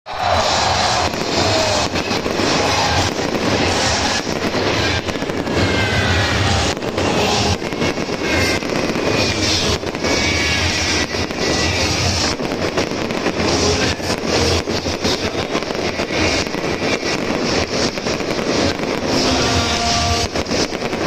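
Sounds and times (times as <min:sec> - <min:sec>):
firework bangs and crackles: 0:00.1 - 0:21.0
firework whistles: 0:00.1 - 0:21.0.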